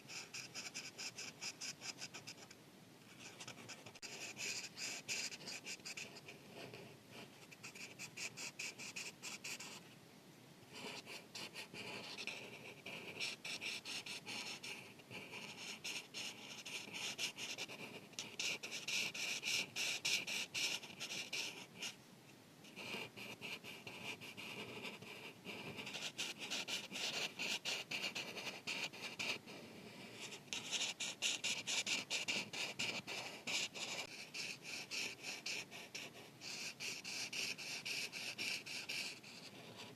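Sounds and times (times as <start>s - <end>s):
marker scratching on paper: 0.0s - 2.5s, 3.1s - 9.8s, 10.8s - 22.0s, 22.7s - 39.9s.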